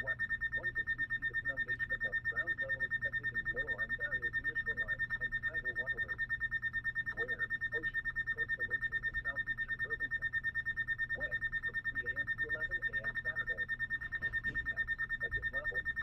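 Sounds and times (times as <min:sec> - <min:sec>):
pulsing high-pitched electronic whine: 0:00.0 - 0:16.0.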